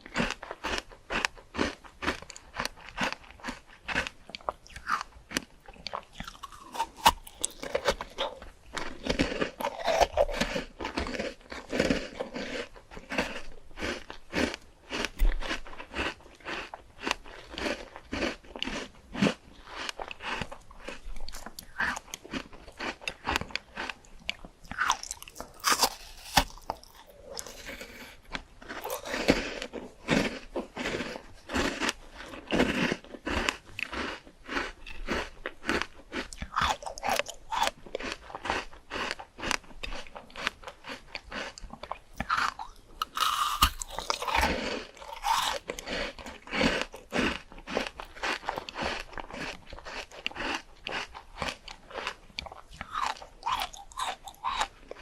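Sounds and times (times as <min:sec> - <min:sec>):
person chewing crisp fruit: 0:00.0 - 0:55.0.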